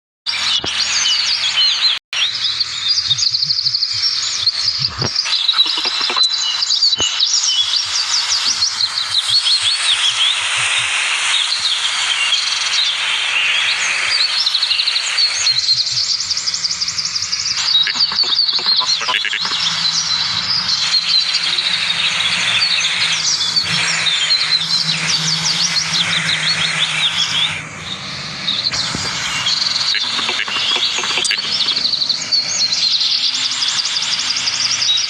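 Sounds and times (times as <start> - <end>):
birds chirping: 0.3 - 35.0.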